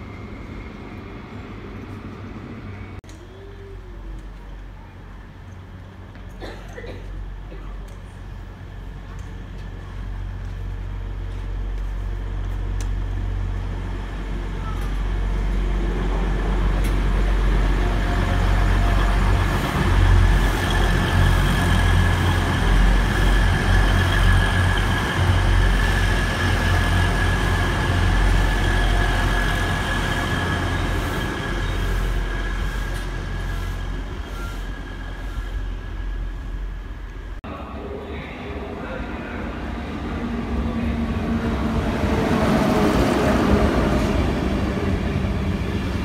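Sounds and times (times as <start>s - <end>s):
diesel train passing: 0.0s - 46.0s.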